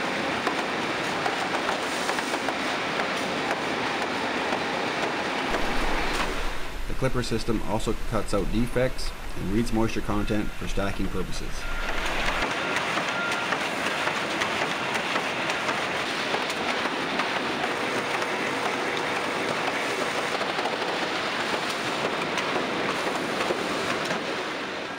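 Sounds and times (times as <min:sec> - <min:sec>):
mill machinery rushing: 0:00.0 - 0:24.9.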